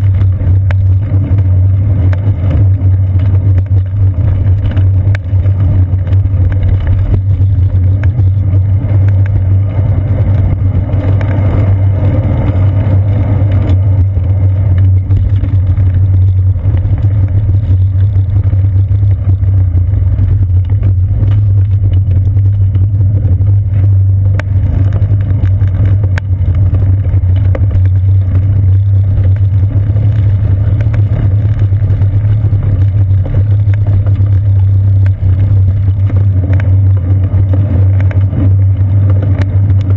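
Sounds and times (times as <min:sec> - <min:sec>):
bicycle riding rumble: 0:00.0 - 0:39.9.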